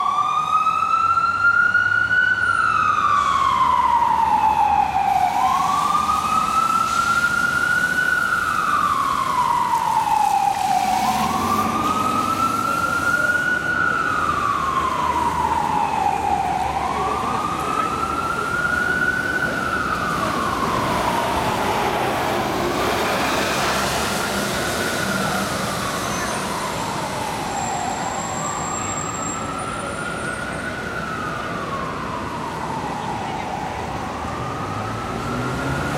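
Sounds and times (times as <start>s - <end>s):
fire engine siren wailing: 0.0s - 35.9s
street traffic noise: 0.0s - 35.9s.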